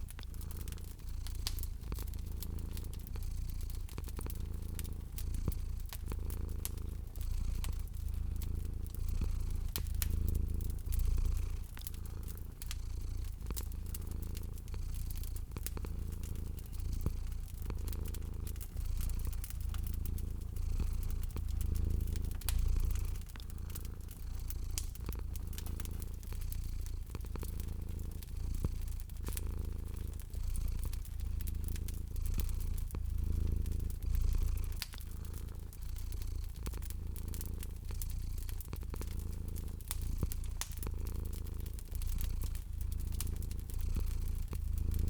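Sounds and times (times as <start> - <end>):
cat purring: 0.0 - 45.0
fire crackling: 0.0 - 45.0.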